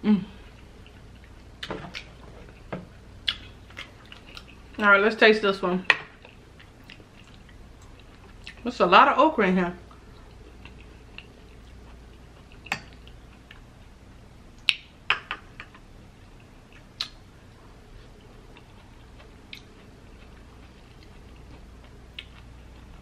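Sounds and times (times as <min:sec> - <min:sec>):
soft chewing: 0:00.3 - 0:04.9, 0:06.0 - 0:08.8, 0:09.8 - 0:14.0, 0:14.6 - 0:23.0.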